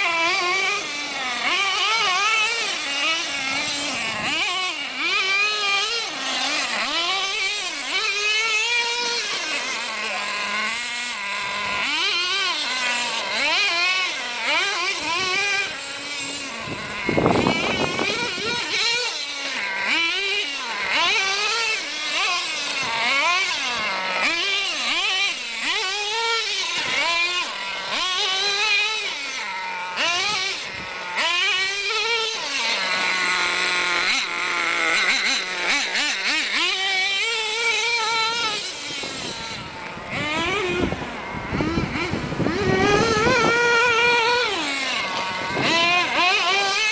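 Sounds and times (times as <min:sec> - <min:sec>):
small engine revving: 0:00.0 - 0:46.9.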